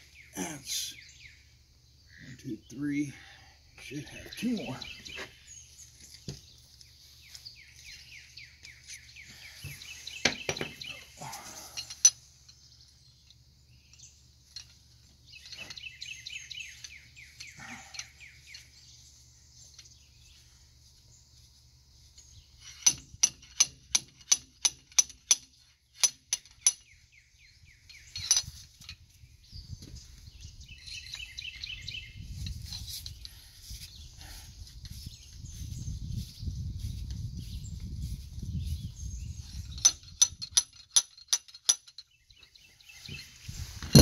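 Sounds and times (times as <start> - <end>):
birds chirping faintly: 0.0 - 44.0.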